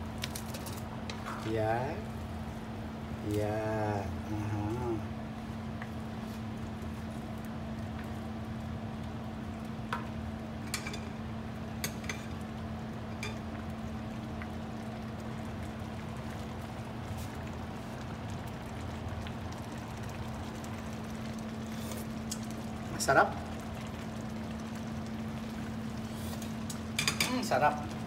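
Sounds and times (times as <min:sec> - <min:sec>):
constant low hum: 0:00.0 - 0:28.0
pot of food simmering: 0:00.0 - 0:28.0.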